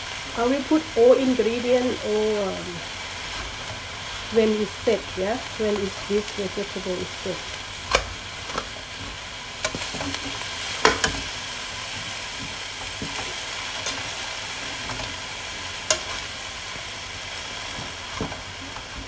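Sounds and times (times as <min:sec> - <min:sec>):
vegetables sizzling in wok: 0:00.0 - 0:19.0.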